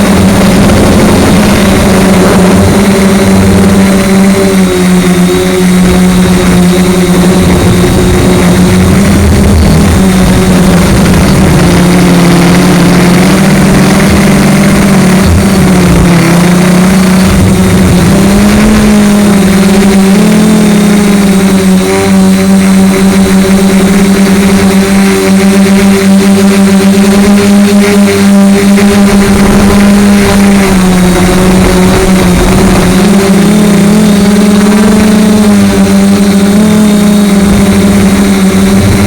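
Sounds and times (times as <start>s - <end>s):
drone propellers humming: 0.0s - 39.0s.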